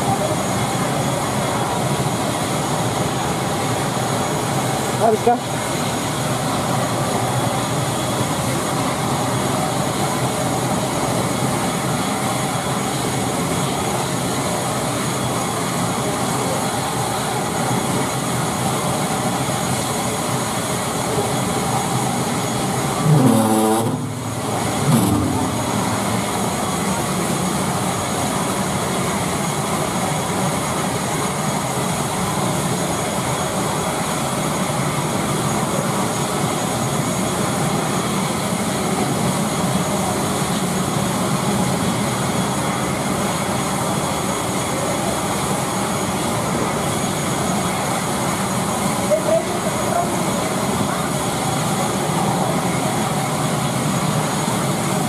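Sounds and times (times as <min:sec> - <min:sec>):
turboprop engine drone and whine: 0:00.0 - 0:55.0.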